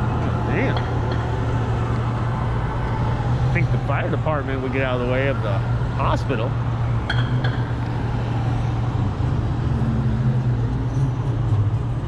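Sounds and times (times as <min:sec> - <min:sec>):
nearby vehicles running: 0:00.0 - 0:12.0
road noise: 0:00.0 - 0:12.0.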